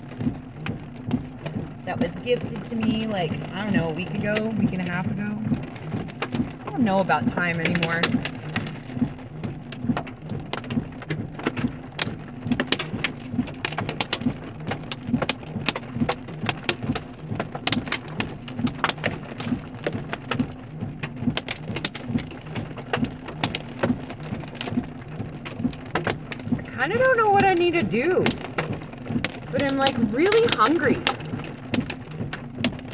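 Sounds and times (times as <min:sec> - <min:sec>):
rain and hail on car roof: 0:00.0 - 0:32.9.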